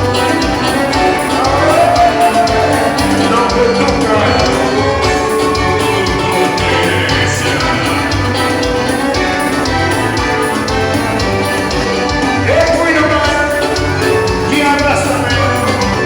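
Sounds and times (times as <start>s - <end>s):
live dance band playing: 0.0s - 16.0s.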